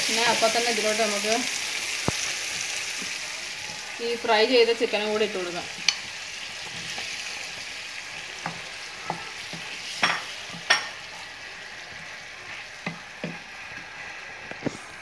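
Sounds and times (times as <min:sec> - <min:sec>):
gravy sizzling in a pan: 0:00.0 - 0:15.0.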